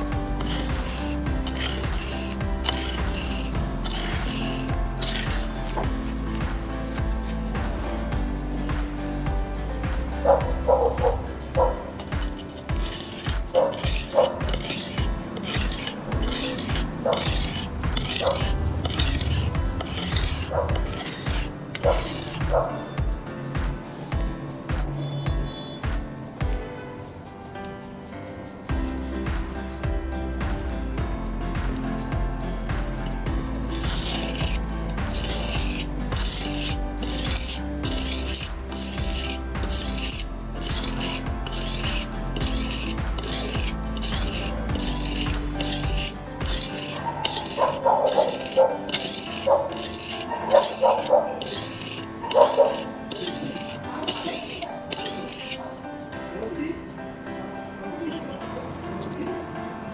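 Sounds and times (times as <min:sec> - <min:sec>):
knife scraping on metal: 0:00.0 - 0:23.0, 0:23.7 - 0:24.3, 0:28.7 - 0:55.8, 0:58.1 - 0:59.9
light background music: 0:00.0 - 0:59.9.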